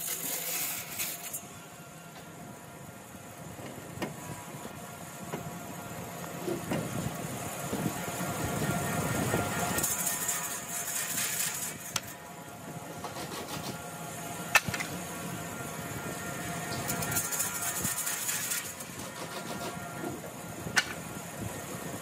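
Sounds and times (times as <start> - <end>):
workshop machine whining: 0.0 - 22.0.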